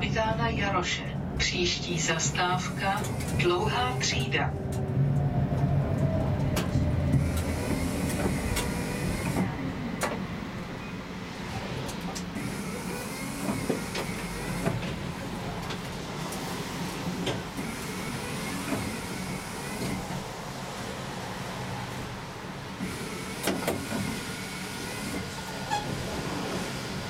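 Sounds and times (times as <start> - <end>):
tram low hum: 0.0 - 27.0
tram running noise: 0.0 - 27.0.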